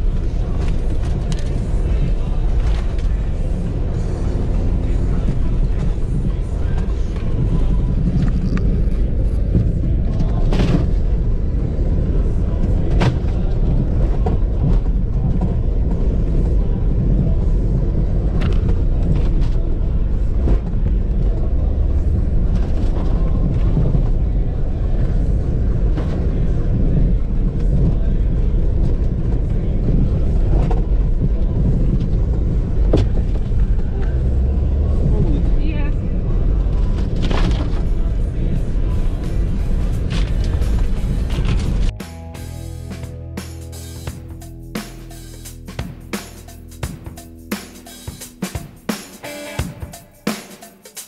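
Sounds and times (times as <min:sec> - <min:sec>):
car engine rumble in cabin: 0:00.0 - 0:43.4.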